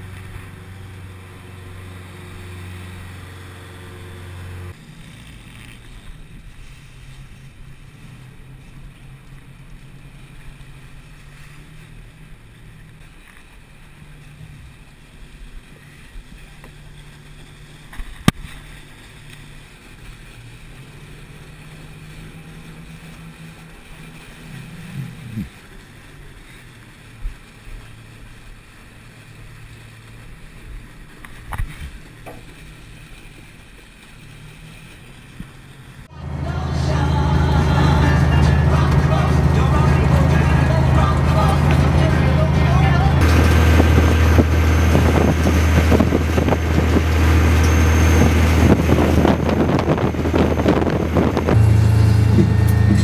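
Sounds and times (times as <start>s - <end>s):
diesel engine running: 0.0s - 13.0s, 13.6s - 31.3s, 31.9s - 53.0s
water washing along hull: 0.0s - 53.0s.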